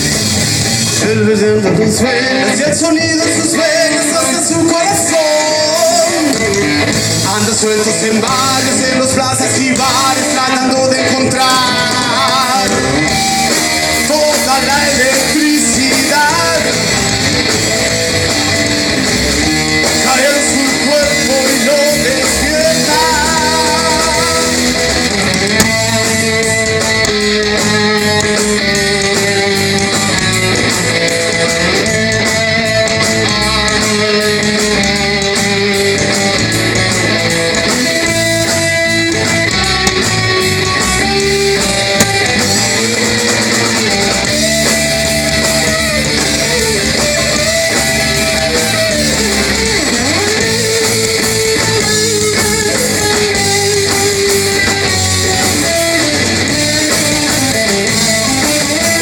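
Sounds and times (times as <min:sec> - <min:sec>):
lead guitar bending notes: 0:00.0 - 0:59.0
rock band playing live: 0:00.0 - 0:59.0.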